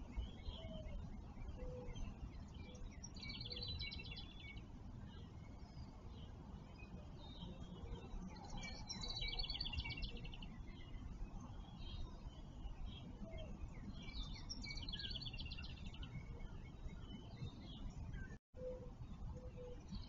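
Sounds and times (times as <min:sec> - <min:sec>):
birds chirping: 0:00.0 - 0:20.0
songbird singing with high trill: 0:00.0 - 0:20.0.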